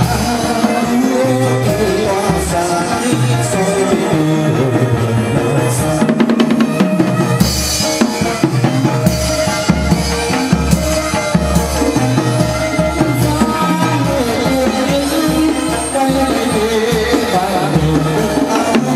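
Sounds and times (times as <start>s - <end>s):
heavy drum beats: 0.0s - 18.9s
sustained instrumental tones: 0.0s - 18.9s.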